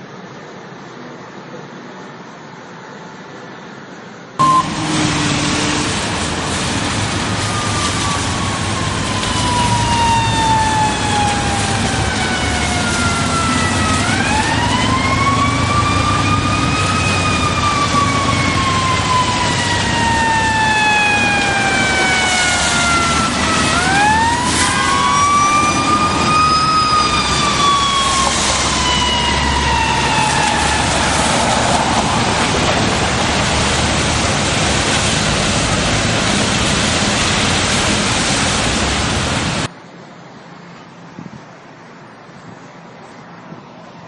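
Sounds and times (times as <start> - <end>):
rumble of engines and traffic: 0.0 - 44.0
fire engine siren wailing: 4.4 - 39.7.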